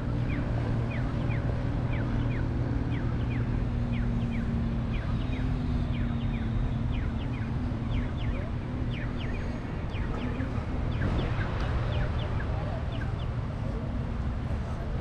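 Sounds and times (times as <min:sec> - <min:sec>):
birds chirping: 0:00.0 - 0:13.5
engine hum: 0:00.0 - 0:15.0
street traffic rumbling: 0:00.0 - 0:15.0.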